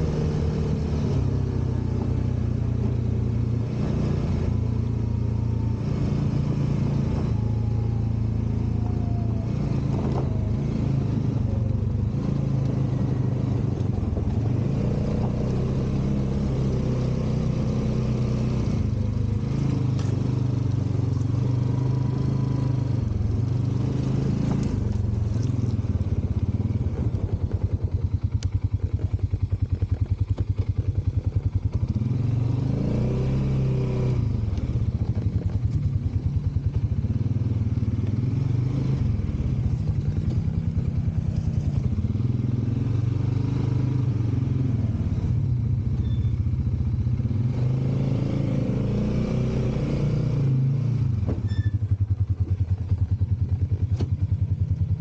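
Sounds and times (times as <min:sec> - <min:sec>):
off-road vehicle engine revving: 0:00.0 - 0:27.6, 0:31.6 - 0:35.9, 0:36.6 - 0:46.4, 0:47.1 - 0:51.7.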